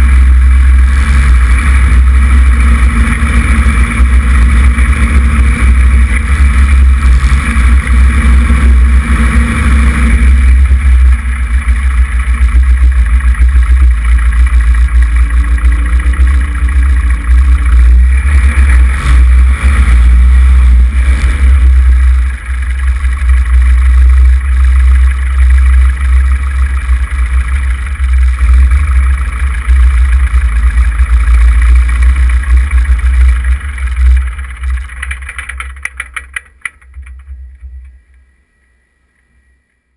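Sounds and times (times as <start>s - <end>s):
prop blast rumble on microphone: 0.0s - 38.0s
propeller plane engine running: 0.0s - 39.5s.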